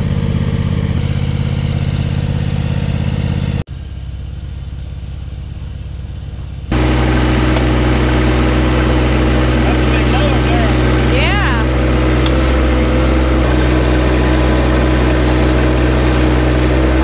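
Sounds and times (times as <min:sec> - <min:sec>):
diesel engine running: 0:00.0 - 0:17.0
distant engine hum: 0:00.0 - 0:17.0.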